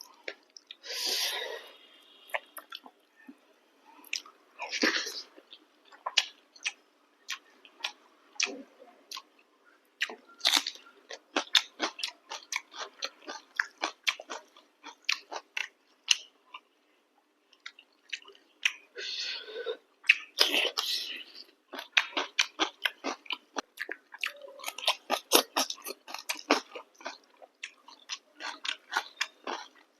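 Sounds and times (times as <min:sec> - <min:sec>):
person chewing food: 0:00.0 - 0:03.3, 0:04.0 - 0:09.4, 0:10.0 - 0:16.7, 0:17.5 - 0:18.9, 0:20.0 - 0:29.9.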